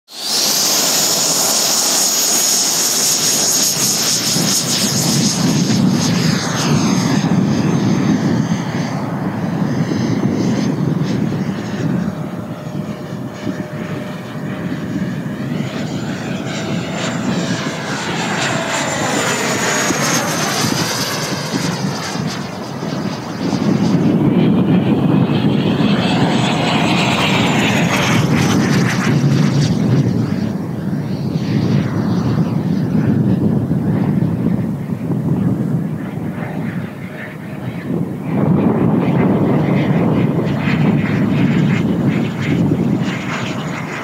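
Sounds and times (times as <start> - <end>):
model jet fan whining: 0.1 - 44.0.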